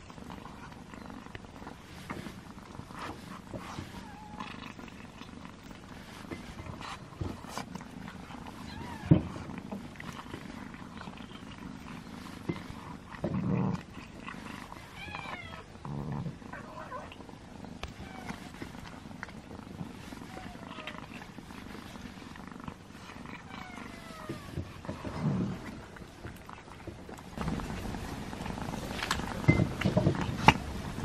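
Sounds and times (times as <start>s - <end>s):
cat purring: 0.0s - 31.0s
cats chewing: 0.0s - 31.0s.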